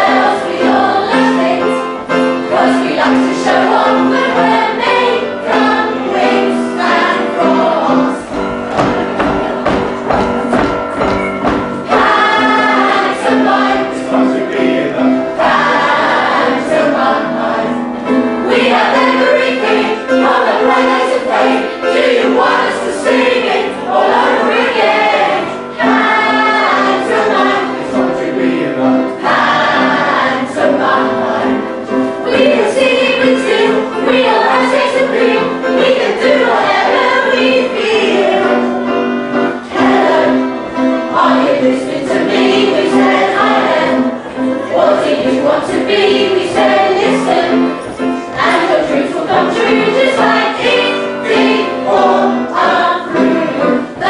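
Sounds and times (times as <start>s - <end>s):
men and women singing in chorus: 0.0s - 10.2s, 11.8s - 38.9s, 39.6s - 54.0s.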